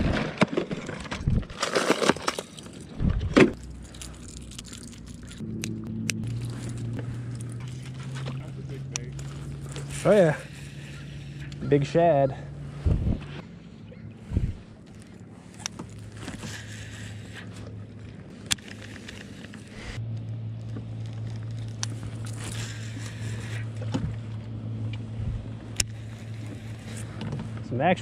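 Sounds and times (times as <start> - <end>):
motorboat engine humming: 2.5 - 28.0.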